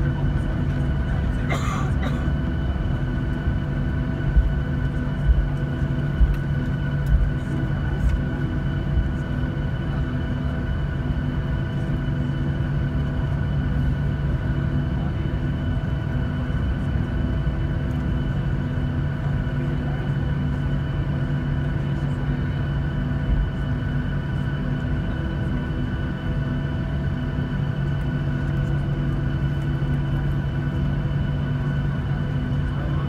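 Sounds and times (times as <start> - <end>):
jet engines idling whine: 0.0 - 33.0.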